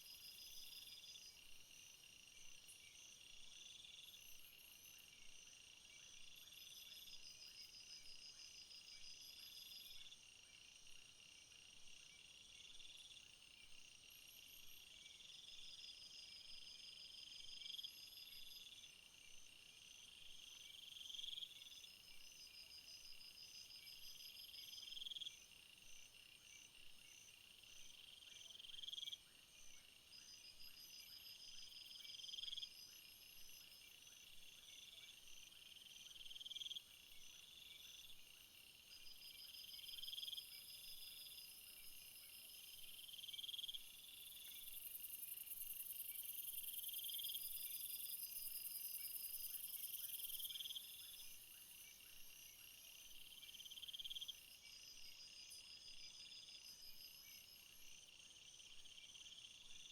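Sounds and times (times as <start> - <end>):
insects chirping: 0.0 - 10.1, 14.0 - 59.9.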